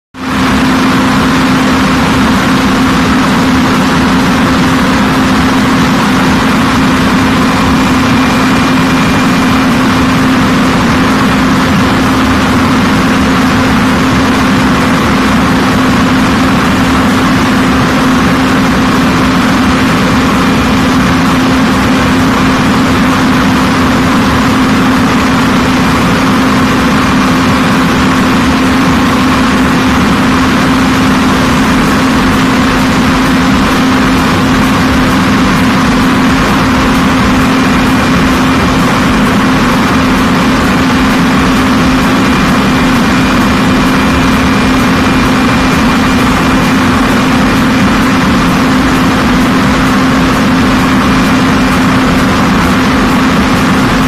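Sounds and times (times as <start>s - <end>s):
machine drone with low hum: 0.2s - 54.0s.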